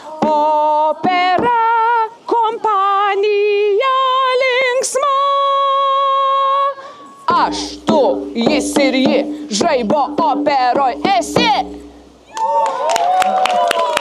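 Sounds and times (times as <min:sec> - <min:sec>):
woman singing operatically: 0:00.0 - 0:11.8.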